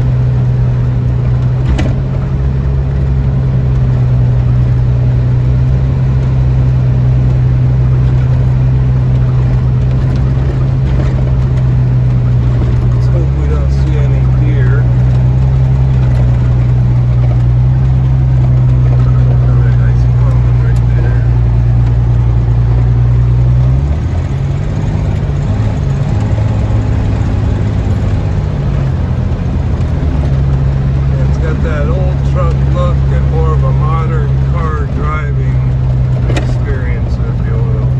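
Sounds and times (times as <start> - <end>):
pickup truck engine drone: 0.0 - 37.9.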